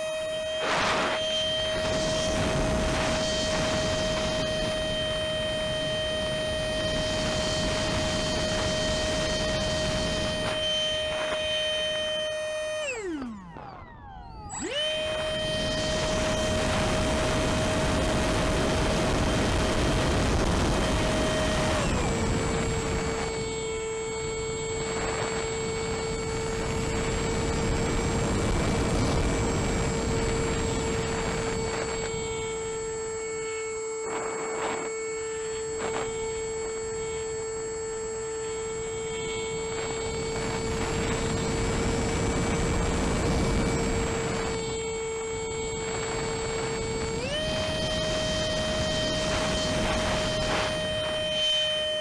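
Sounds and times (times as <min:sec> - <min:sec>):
electric motor and propeller whine: 0:00.0 - 0:52.0
wind rush on microphone: 0:00.0 - 0:52.0.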